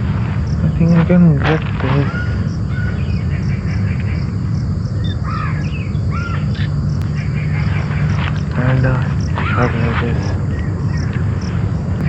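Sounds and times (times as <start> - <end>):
bird calling: 0.0 - 11.8
steady low rumble: 0.0 - 12.0.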